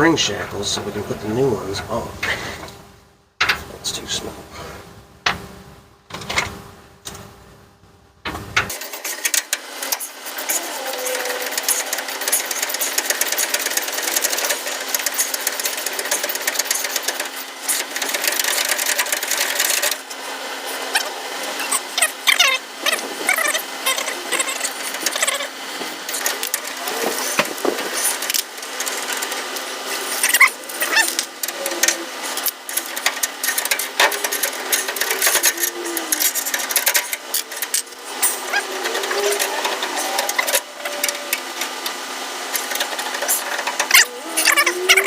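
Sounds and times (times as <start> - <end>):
hand tools rattling on metal: 8.7 - 45.0.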